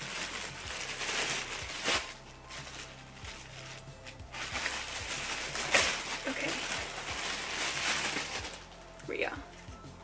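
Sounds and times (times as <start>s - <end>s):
plastic bag rustling and crinkling: 0.0s - 9.2s.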